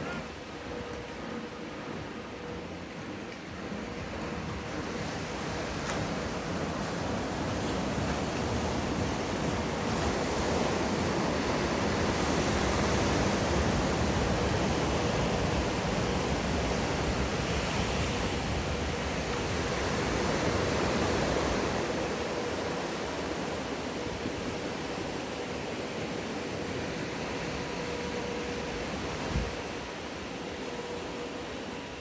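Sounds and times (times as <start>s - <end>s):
surf water rushing: 0.0s - 32.0s.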